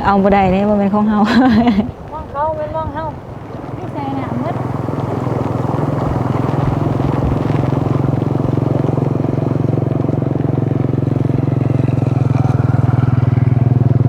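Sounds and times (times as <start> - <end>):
small engine puttering: 0.0 - 14.0.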